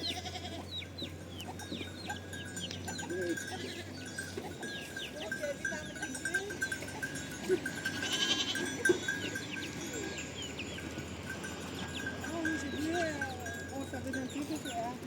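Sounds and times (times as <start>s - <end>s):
goats and sheep bleating: 0.0s - 14.9s.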